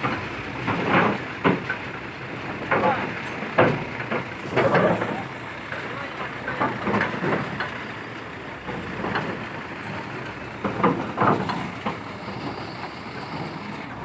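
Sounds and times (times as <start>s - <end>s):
metallic clanks and knocks: 0.0s - 2.0s, 2.6s - 7.8s, 8.6s - 12.9s
piling machine engine running: 0.0s - 14.0s.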